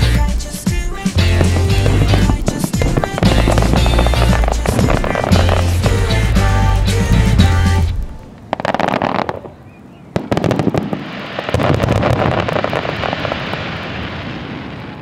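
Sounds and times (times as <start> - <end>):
firework crackling: 0.0 - 9.6, 10.2 - 15.0
firework bangs: 0.4 - 6.2, 7.0 - 15.0.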